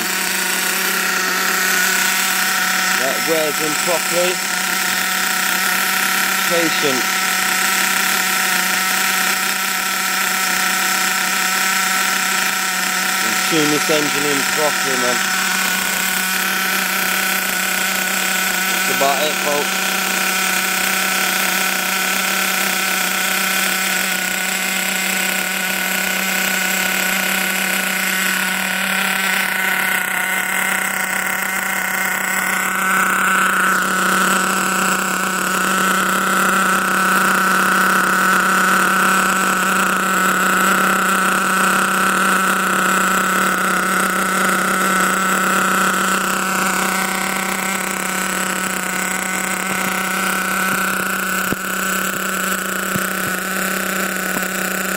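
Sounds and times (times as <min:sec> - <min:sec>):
small nitro engine running: 0:00.0 - 0:54.9.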